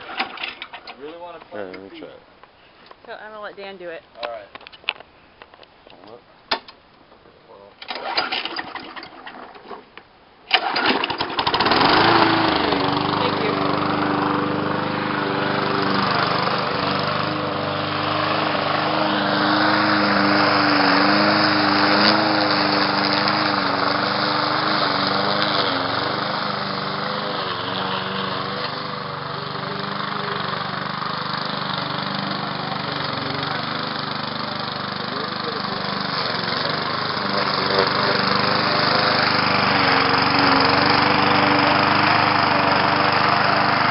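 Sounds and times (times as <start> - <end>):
lawnmower engine running: 0.0 - 1.6, 7.8 - 9.9, 10.5 - 43.9.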